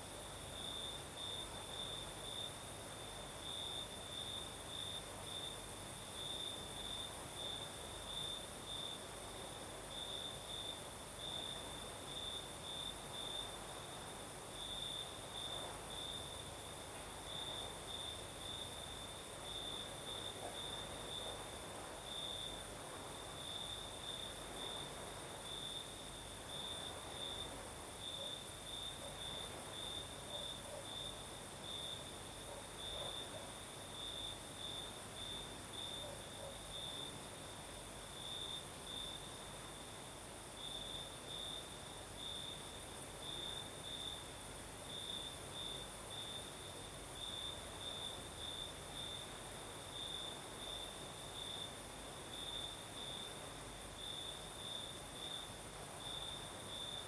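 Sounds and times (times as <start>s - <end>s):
crickets chirping: 0.0s - 57.0s
high insect hum: 0.0s - 57.0s.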